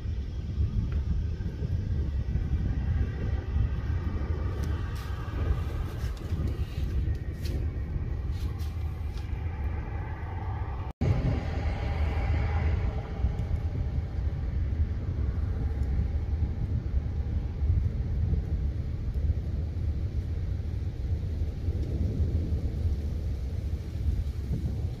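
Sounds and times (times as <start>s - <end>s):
thunder rumbling: 0.0s - 25.0s.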